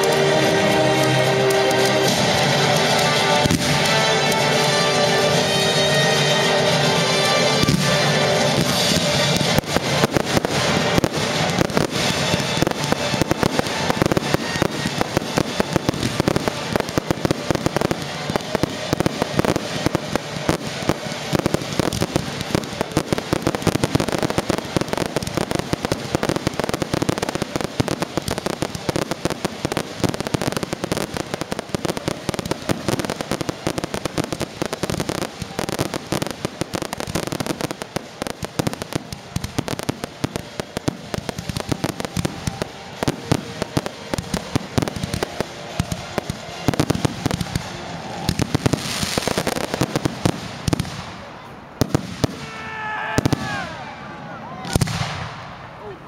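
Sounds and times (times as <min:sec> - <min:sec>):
music: 0:00.0 - 0:50.9
fireworks bursting and crackling: 0:00.0 - 0:56.0.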